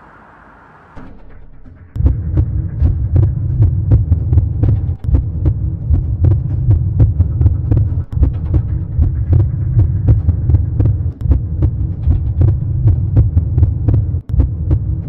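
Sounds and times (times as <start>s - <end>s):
low throbbing suspense beat: 1.0s - 15.0s.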